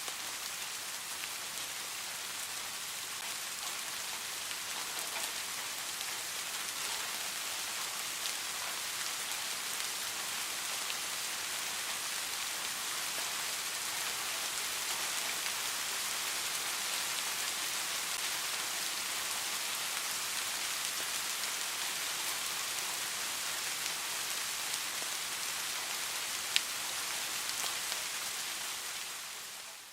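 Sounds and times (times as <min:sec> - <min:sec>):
steady rain hiss: 0:00.0 - 0:29.9.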